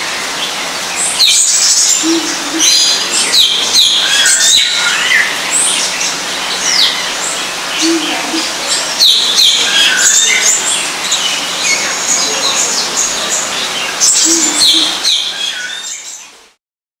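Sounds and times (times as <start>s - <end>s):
birds chirping and whistling: 1.0s - 16.2s.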